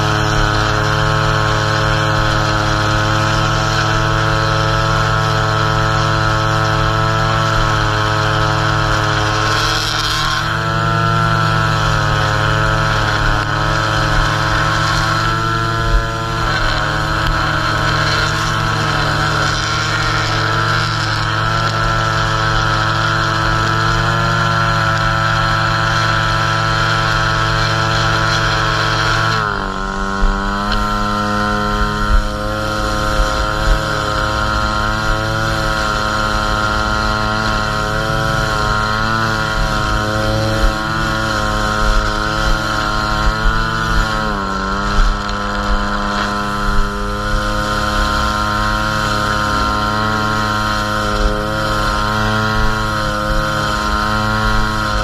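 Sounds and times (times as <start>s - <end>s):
string trimmer engine at high revs: 0.0s - 55.0s
trimmer line cutting grass: 0.0s - 55.0s.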